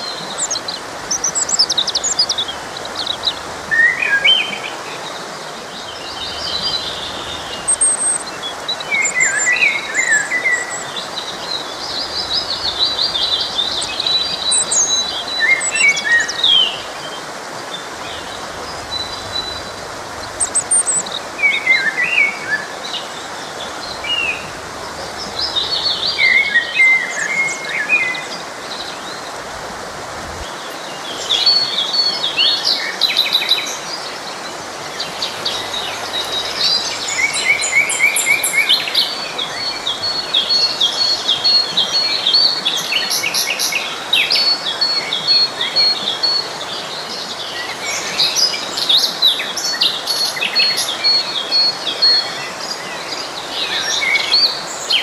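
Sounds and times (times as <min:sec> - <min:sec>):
birds singing and chirping: 0:00.0 - 0:55.0
stream rushing: 0:00.0 - 0:55.0.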